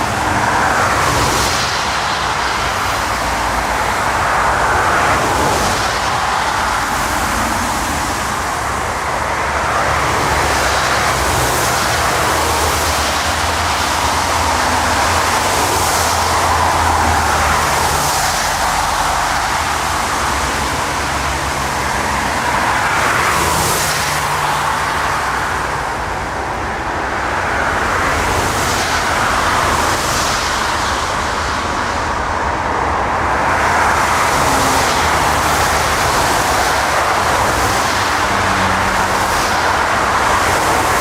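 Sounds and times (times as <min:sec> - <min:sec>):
jet engines rushing: 0:00.0 - 0:41.0.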